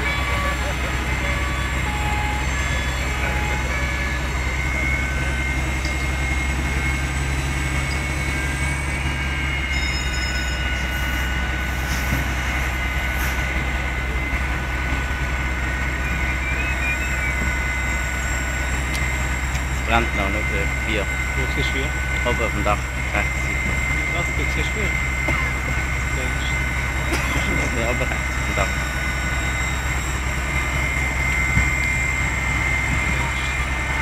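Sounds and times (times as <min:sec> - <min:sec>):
diesel engines rumbling: 0:00.0 - 0:34.0.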